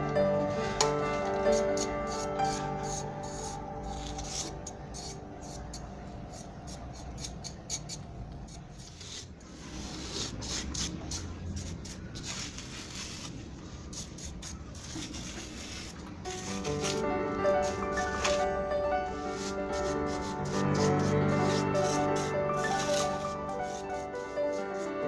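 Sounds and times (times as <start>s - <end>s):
hand tool scraping on cement: 1.5s - 18.5s, 19.2s - 25.0s.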